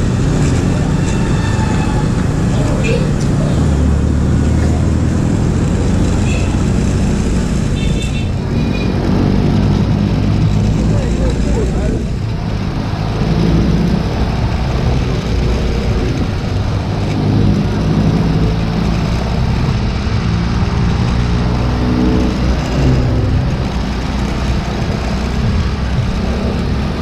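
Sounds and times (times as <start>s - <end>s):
motorcycle engine running: 0.0s - 27.0s
nearby vehicles running: 0.0s - 27.0s
road and wind noise: 0.0s - 27.0s.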